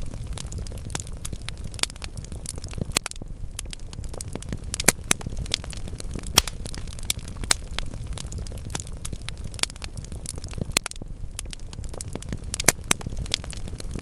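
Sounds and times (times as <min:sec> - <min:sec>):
logs crackling and popping: 0:00.0 - 0:14.0
low rumble of fire: 0:00.0 - 0:14.0.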